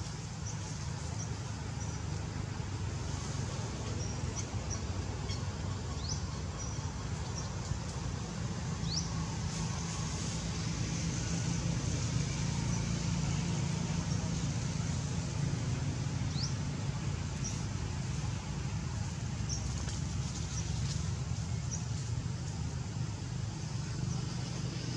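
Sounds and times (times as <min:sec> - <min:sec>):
low outdoor rumble: 0:00.0 - 0:24.9.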